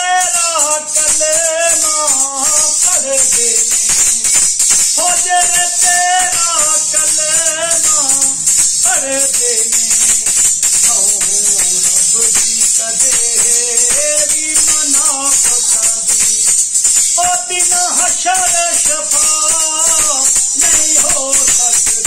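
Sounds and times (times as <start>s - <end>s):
man singing: 0.0s - 22.0s
tongs jingling and clapping: 0.0s - 22.0s.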